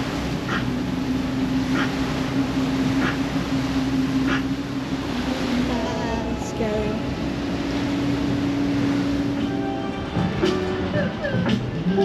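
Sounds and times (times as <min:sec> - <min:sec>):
boat engine humming: 0:00.0 - 0:12.0
water noise: 0:00.0 - 0:12.0
wind: 0:00.0 - 0:12.0.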